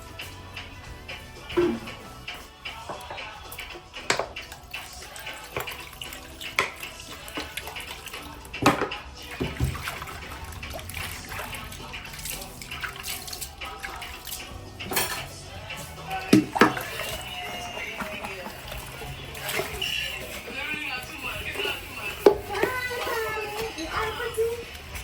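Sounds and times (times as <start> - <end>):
water running and splashing: 1.1 - 25.0.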